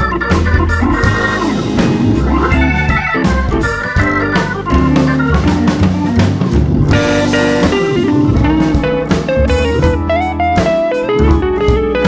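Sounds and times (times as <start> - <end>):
instrumental music with guitar and drums: 0.0 - 12.0.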